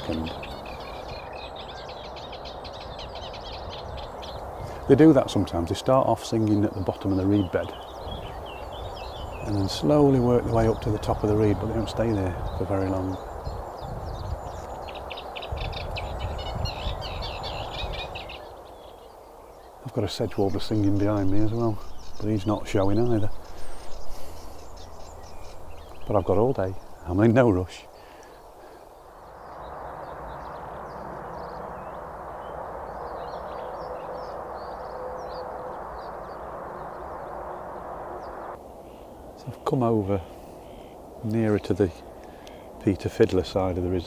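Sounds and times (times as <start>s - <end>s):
reed warbler singing: 0.0s - 44.0s
songbirds chirping: 0.0s - 44.0s.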